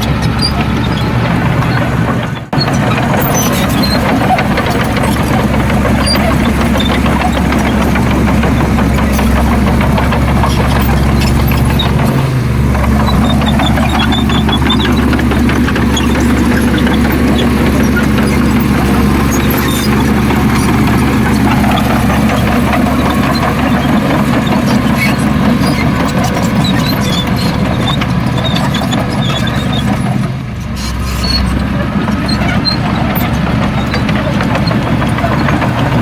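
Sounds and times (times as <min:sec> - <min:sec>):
heavy diesel engine under load: 0:00.0 - 0:36.0
machinery clattering: 0:00.0 - 0:36.0.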